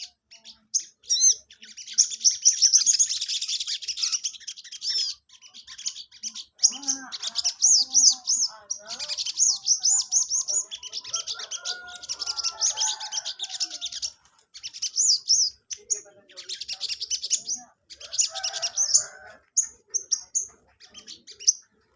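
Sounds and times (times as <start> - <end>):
songbird chirping and trilling: 0.0 - 21.9.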